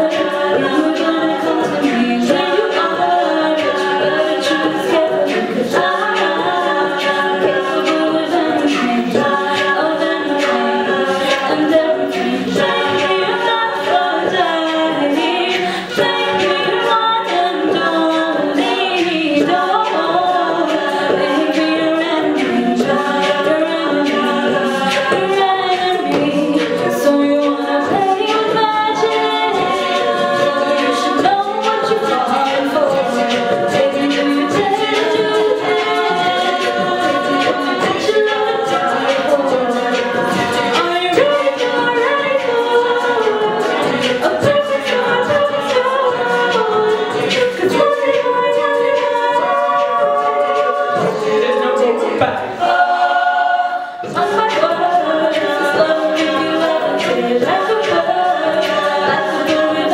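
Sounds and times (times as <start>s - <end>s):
backing voices in harmony: 0.0s - 59.9s
female lead voice singing: 0.0s - 59.9s
sharp percussive hits: 0.0s - 59.9s.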